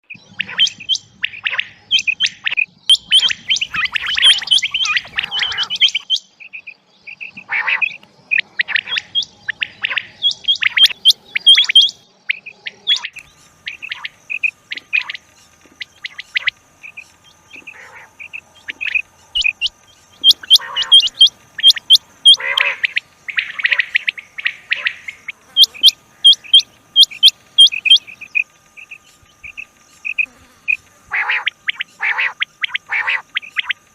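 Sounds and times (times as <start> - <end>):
quail calling: 0.0 - 33.9.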